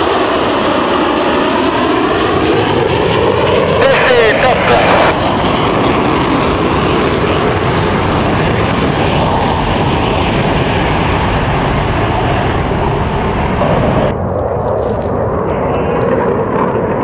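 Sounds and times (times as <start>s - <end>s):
fighter jet engine noise: 0.0s - 17.0s.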